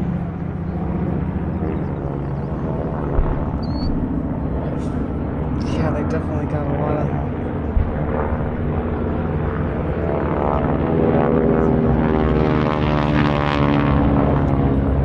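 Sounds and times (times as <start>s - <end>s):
propeller airplane passing: 0.0s - 15.0s.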